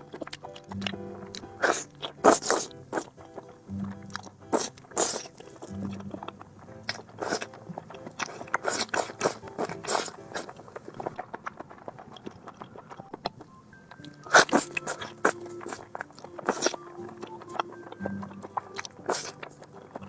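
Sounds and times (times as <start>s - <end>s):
wet crunchy chewing of food: 0.0s - 20.0s.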